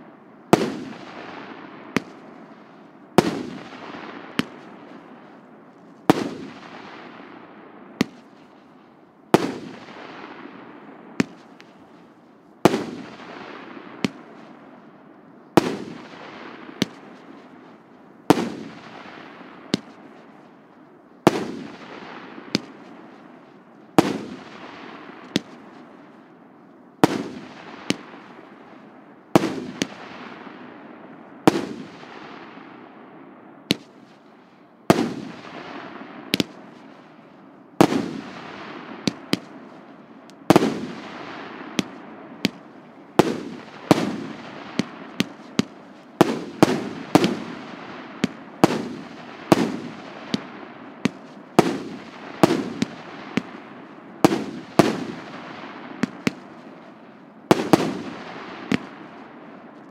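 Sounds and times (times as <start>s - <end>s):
fireworks bangs: 0.5s - 26.3s, 27.0s - 59.9s.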